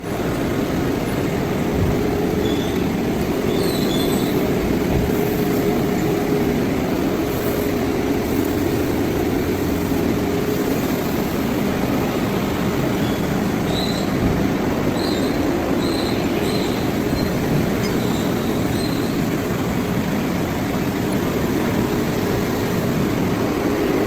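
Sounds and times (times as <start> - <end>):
machinery drone: 0.0 - 24.0.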